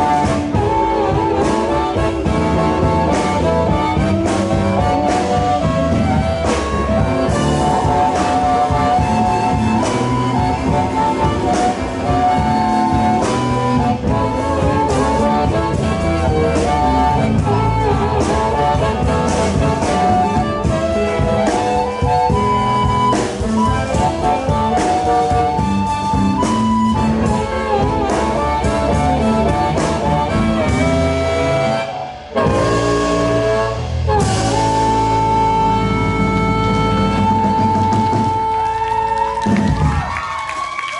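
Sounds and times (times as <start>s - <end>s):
harmonica bending notes: 0.0s - 39.6s
live blues band playing: 0.0s - 40.9s
steady drum beat: 0.0s - 40.9s.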